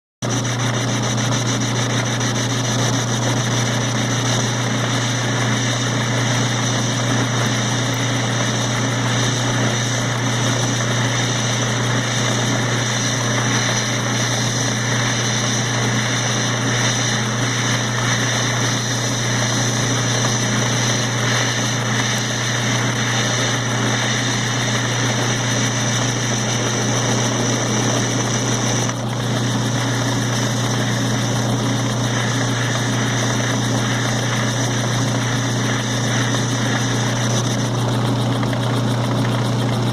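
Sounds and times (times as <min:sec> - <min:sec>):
metal lathe running: 0:00.3 - 0:39.9.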